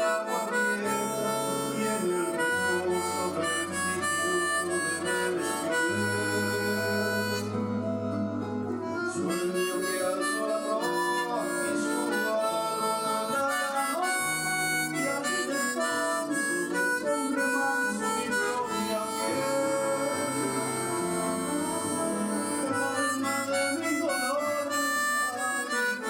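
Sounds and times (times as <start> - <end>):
harmonica melody: 0.0 - 26.0
sustained accompaniment: 0.0 - 26.0.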